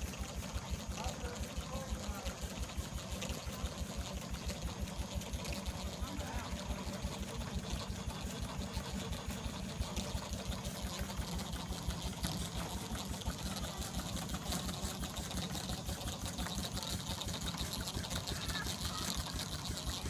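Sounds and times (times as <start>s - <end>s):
continuous steam hiss: 0.0s - 20.0s
steam engine running: 0.0s - 20.0s.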